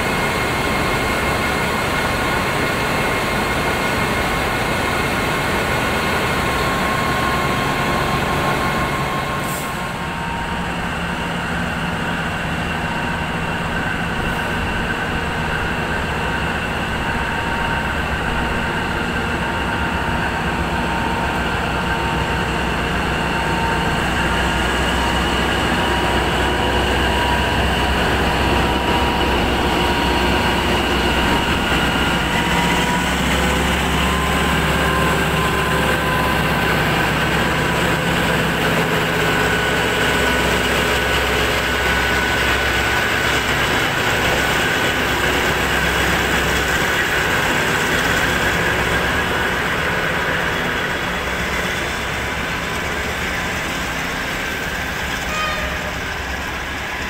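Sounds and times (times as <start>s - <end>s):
diesel locomotive rumble: 0.0s - 57.0s.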